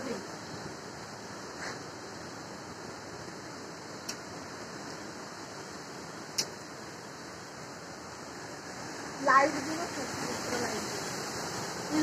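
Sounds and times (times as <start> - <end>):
rain: 0.0 - 12.0
storm wind: 0.0 - 12.0.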